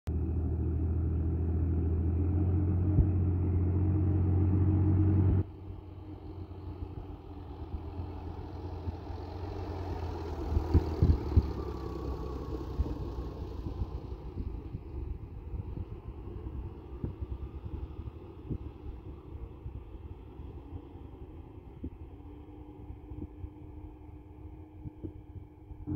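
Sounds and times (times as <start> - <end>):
tractor diesel engine running: 0.1 - 25.9.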